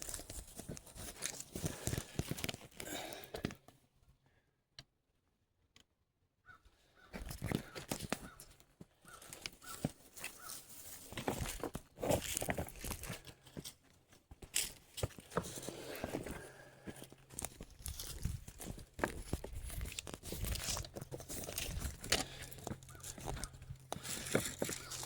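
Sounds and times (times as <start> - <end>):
footsteps crunching on loose rock: 0.0 - 3.6, 7.2 - 25.0.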